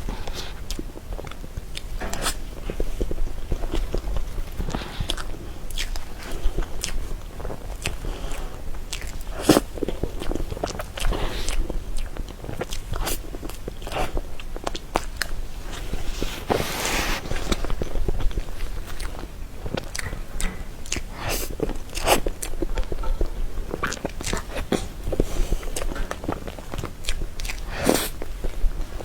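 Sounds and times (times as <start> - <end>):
wet chewing and lip smacks: 0.2 - 16.6, 17.2 - 29.0.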